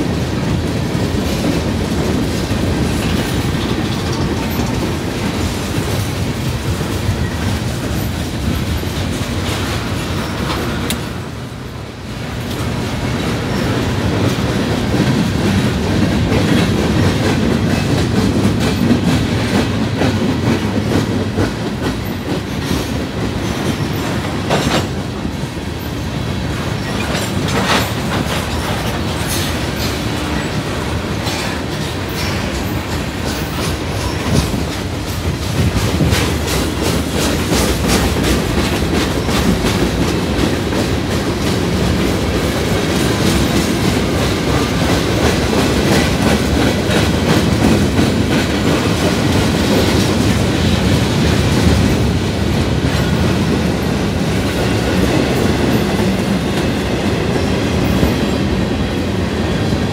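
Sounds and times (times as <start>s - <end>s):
freight train rolling past: 0.0s - 59.9s
wheels clacking over rail joints: 0.0s - 59.9s.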